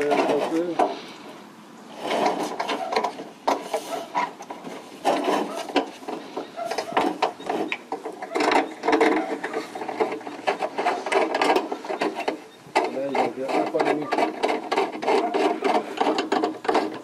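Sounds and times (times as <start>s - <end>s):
metal rain gutter scraping and clicking: 0.0s - 17.0s.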